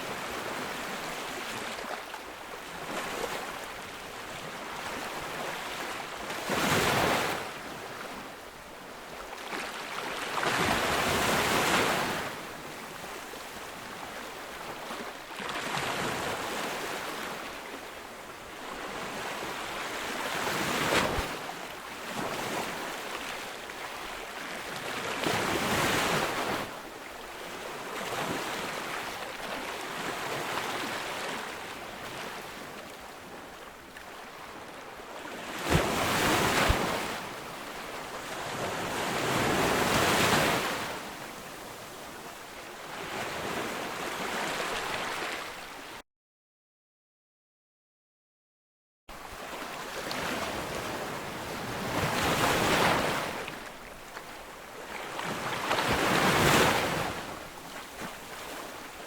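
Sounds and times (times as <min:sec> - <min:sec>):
waves breaking on a beach: 0:00.0 - 0:46.0, 0:49.1 - 0:59.0.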